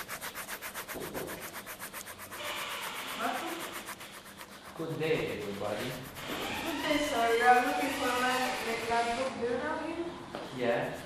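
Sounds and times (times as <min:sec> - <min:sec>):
paintbrush rubbing on canvas: 0:00.0 - 0:09.8, 0:10.4 - 0:11.0.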